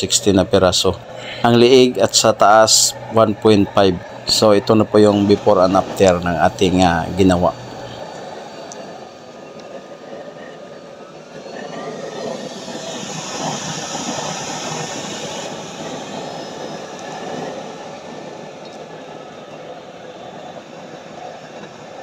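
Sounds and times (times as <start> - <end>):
burner flame and fan roar: 0.0 - 22.0.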